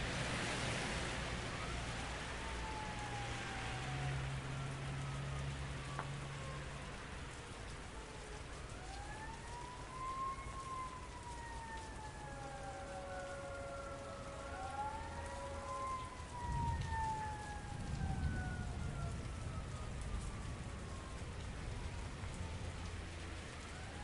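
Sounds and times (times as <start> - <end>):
rain falling: 0.0 - 24.0
siren wailing: 1.5 - 24.0.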